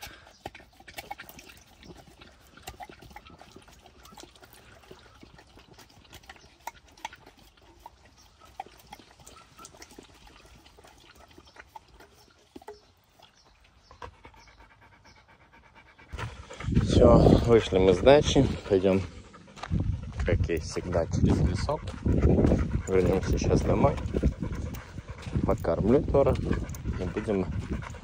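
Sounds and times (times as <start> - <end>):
dog lapping water: 0.0 - 28.0.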